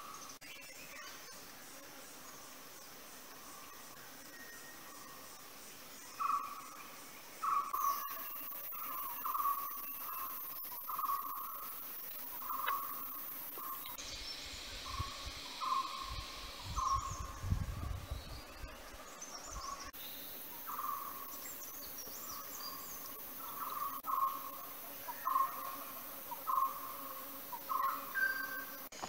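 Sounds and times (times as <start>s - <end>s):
high insect buzz: 0.0s - 29.0s.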